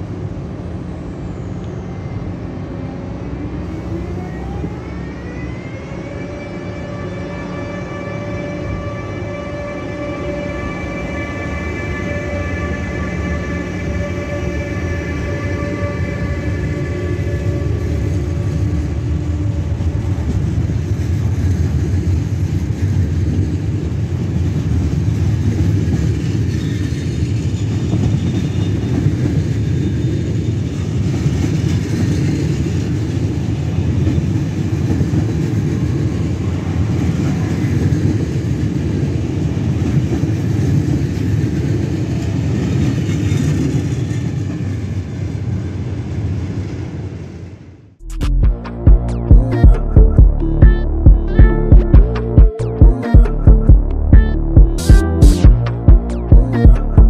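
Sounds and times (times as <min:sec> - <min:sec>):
train wheels rumbling on rails: 0:00.0 - 0:47.8.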